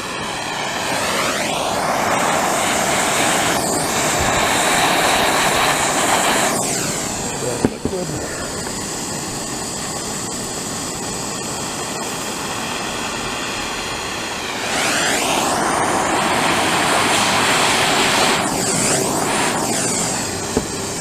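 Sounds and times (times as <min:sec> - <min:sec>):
gas torch flame hissing: 0:00.0 - 0:21.0.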